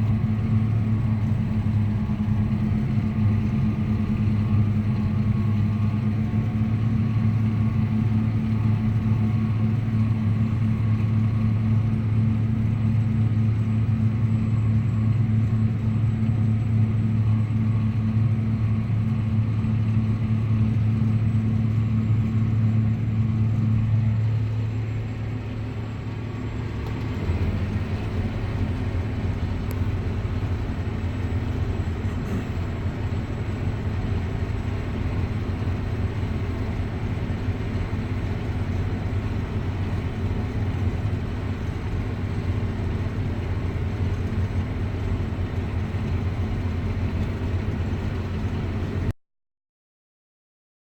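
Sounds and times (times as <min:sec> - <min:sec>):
tractor engine running: 0:00.0 - 0:49.1.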